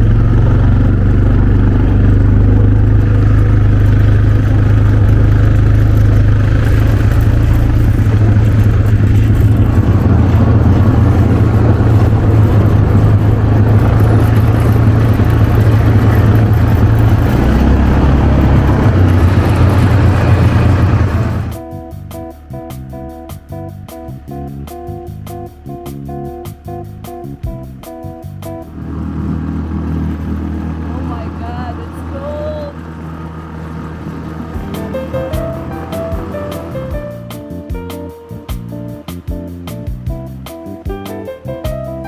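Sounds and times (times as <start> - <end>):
atv engine running: 0.0 - 21.6, 27.4 - 42.0.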